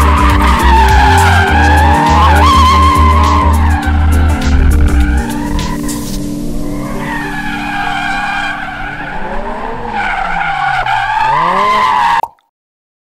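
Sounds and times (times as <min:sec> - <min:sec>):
car engine revving: 0:00.0 - 0:12.1
tyres squealing: 0:00.0 - 0:12.2.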